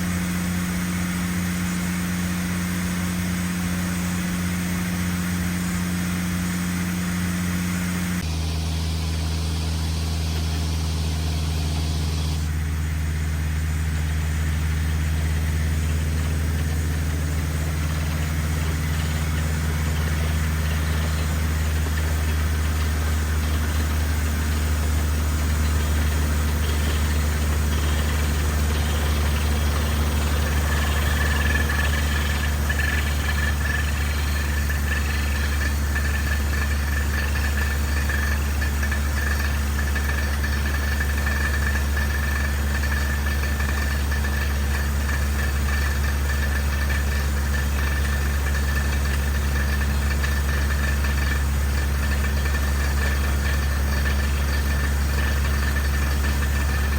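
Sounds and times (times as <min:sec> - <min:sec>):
engine humming: 0:00.0 - 0:56.9.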